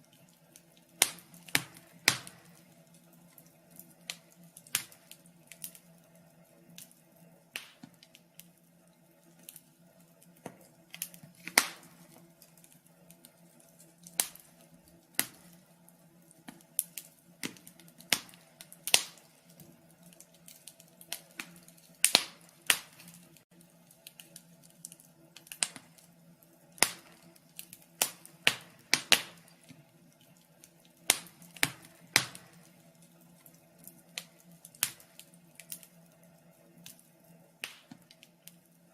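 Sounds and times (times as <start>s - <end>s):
faint steady low hum: 0.0s - 38.9s
fire crackling and popping: 0.0s - 38.9s.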